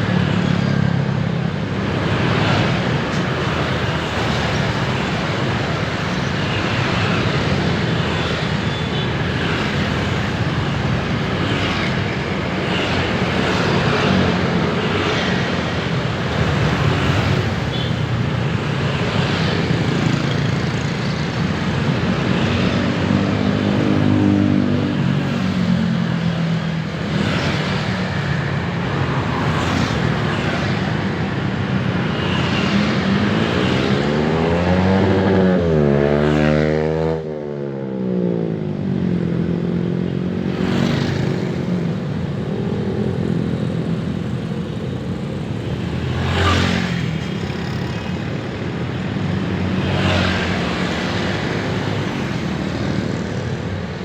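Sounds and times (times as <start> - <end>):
busy road traffic: 0.0 - 54.0.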